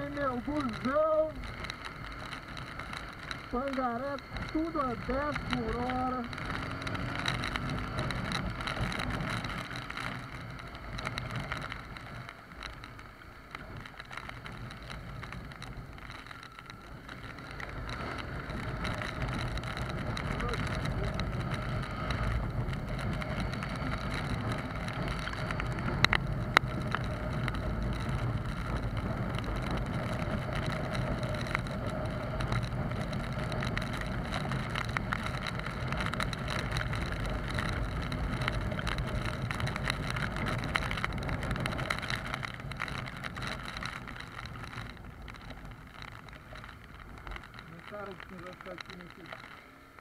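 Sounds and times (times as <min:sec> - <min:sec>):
motorcycle engine running: 0:00.0 - 0:50.0
rain and wet road hiss: 0:00.0 - 0:50.0
sharp ticks: 0:00.0 - 0:50.0.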